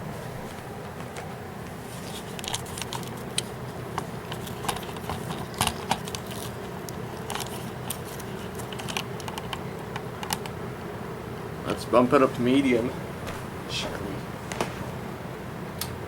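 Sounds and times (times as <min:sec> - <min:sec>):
box fan humming: 0:00.0 - 0:16.0.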